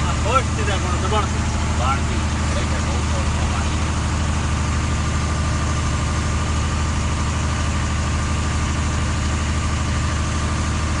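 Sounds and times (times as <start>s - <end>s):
large engine idling: 0.0s - 11.0s.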